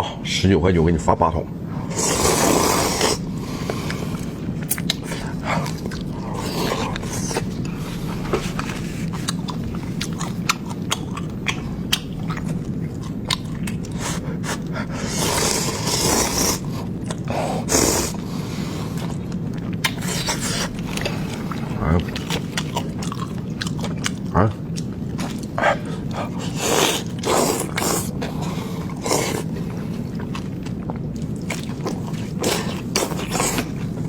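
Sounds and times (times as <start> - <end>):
person chewing: 1.9 - 34.0.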